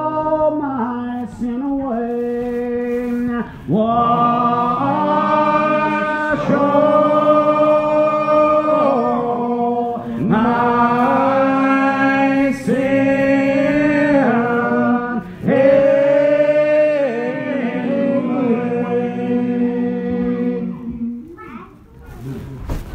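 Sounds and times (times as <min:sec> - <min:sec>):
group singing a hymn: 0:00.0 - 0:21.2.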